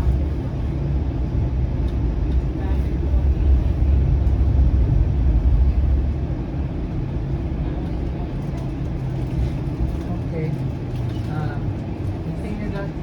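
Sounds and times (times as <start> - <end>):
streetcar rumbling: 0.0 - 13.0.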